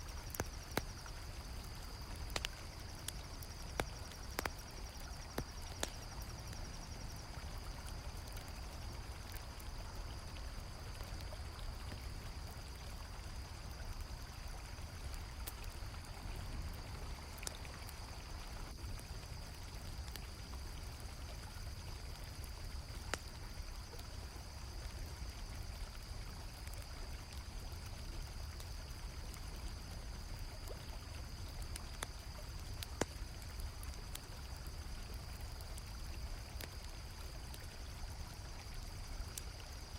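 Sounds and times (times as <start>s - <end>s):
campfire crackling: 0.0s - 39.9s
crickets trilling: 0.0s - 39.9s
flowing river water: 0.0s - 39.9s.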